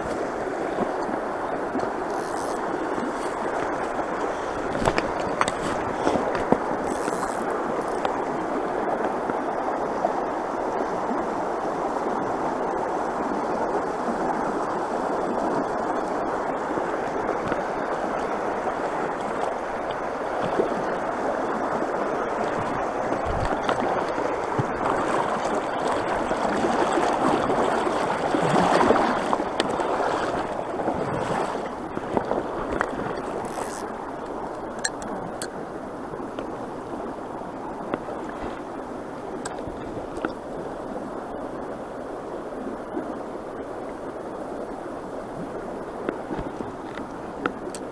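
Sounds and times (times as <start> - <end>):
creek babbling over rocks: 0.0 - 47.9.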